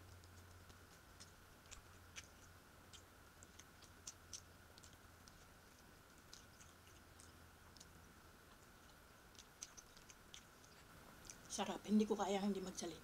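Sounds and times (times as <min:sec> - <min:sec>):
person chewing food: 0:00.0 - 0:11.5
steady low hum: 0:00.0 - 0:13.0.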